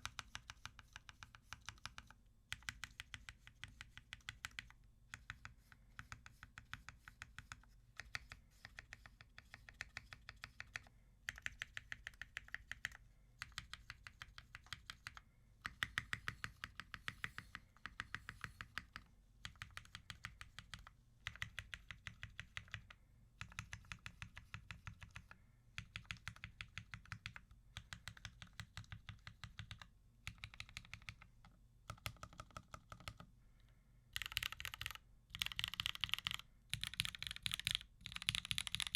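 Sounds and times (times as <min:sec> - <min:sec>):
mechanical keyboard typing: 0:00.0 - 0:33.3, 0:34.1 - 0:38.9.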